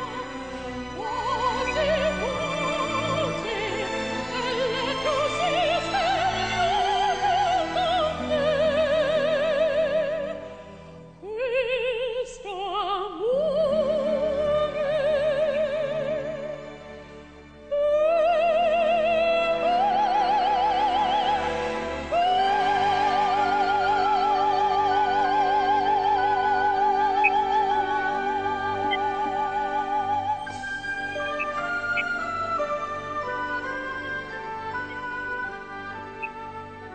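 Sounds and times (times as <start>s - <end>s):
orchestral accompaniment: 0.0s - 11.4s, 13.1s - 36.9s.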